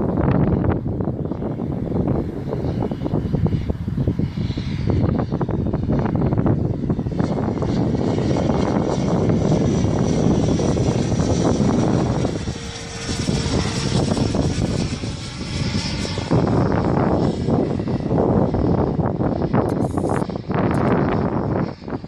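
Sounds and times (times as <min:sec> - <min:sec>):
model jet fan whining: 0:00.0 - 0:22.0
wind buffeting microphone: 0:00.0 - 0:22.0.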